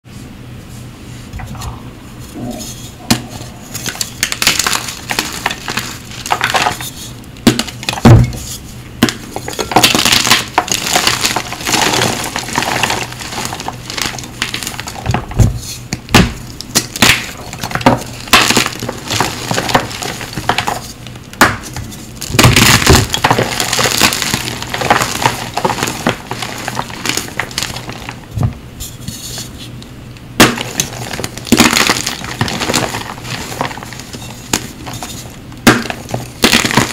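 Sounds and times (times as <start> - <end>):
chalk crushed and snapped by hand: 3.8 - 28.2, 30.4 - 36.9.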